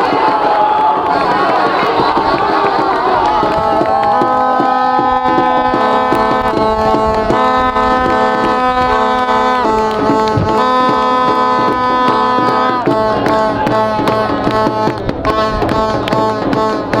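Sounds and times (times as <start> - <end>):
held chords: 0.0 - 17.0
percussion beat: 0.0 - 17.0.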